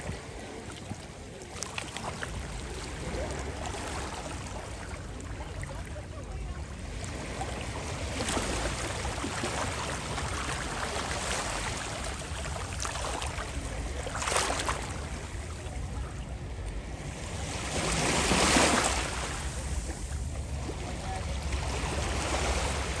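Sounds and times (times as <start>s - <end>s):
small waves washing onto beach: 0.0s - 23.0s.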